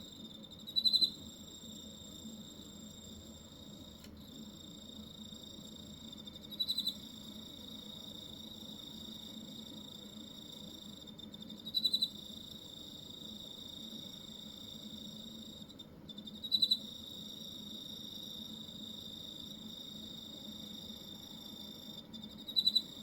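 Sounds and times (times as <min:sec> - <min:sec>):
crickets trilling: 0:00.0 - 0:23.0
pulsed cricket chirp: 0:00.0 - 0:23.0.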